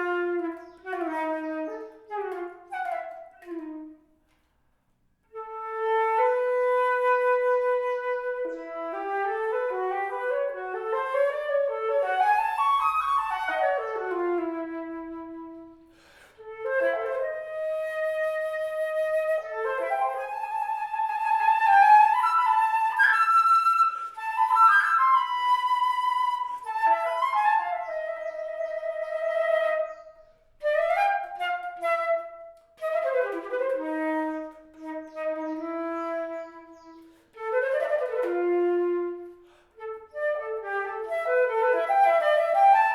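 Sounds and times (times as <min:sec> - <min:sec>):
solo flute melody: 0:00.0 - 0:04.2, 0:05.3 - 0:42.9.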